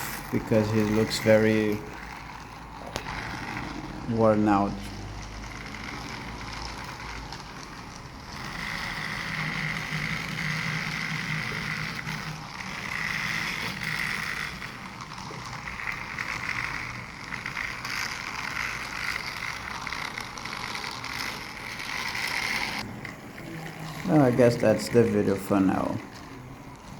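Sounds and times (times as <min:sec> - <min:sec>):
toy train motor whirring: 0:00.0 - 0:26.9
wheels on toy track: 0:00.0 - 0:26.9.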